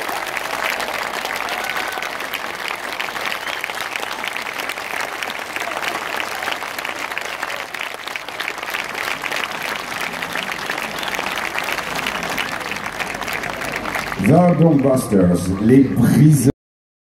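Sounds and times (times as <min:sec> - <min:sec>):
large audience applauding: 0:00.0 - 0:16.3.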